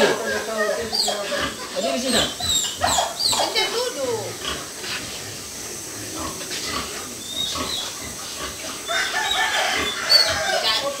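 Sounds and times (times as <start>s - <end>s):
animal grunts and snorts: 0.0s - 10.5s.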